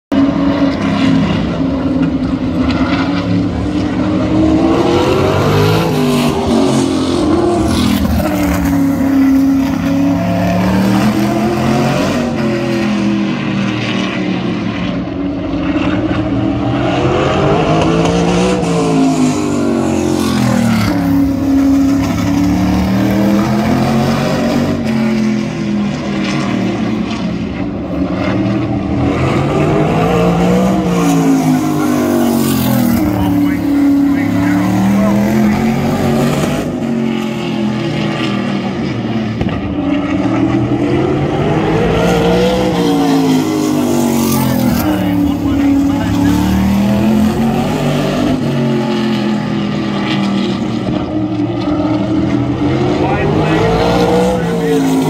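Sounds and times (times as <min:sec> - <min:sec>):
racing car engine revving: 0:00.1 - 0:55.0.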